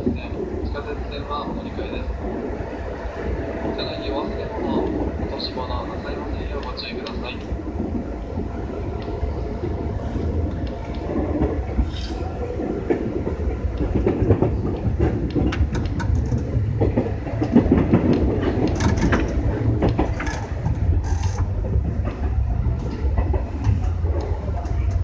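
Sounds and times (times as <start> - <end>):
electric train running rumble: 0.0 - 25.0
wheels clicking over rail joints: 3.4 - 25.0.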